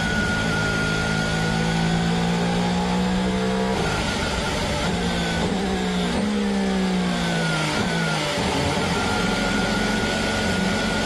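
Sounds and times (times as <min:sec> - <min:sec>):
racing car engine droning: 0:00.0 - 0:11.0.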